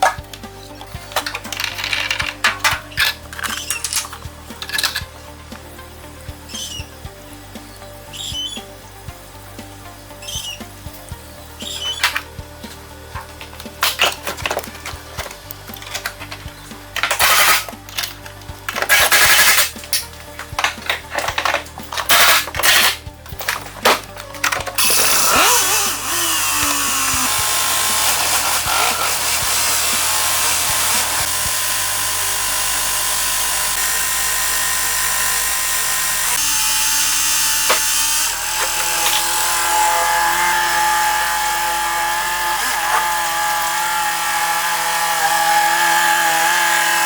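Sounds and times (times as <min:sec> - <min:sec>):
background music: 0:00.0 - 0:47.0
power tool running: 0:00.0 - 0:47.0.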